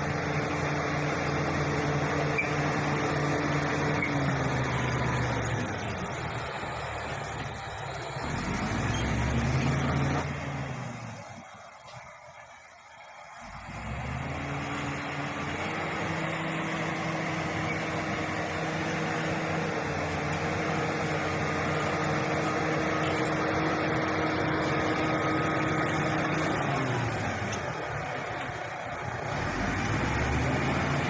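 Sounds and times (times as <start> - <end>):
bulldozer diesel engine: 0.0 - 31.0.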